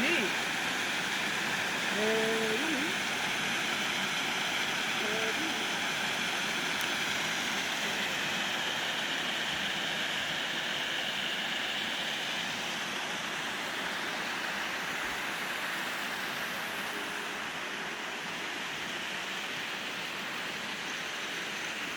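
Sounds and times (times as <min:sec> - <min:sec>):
rushing water: 0:00.0 - 0:21.9.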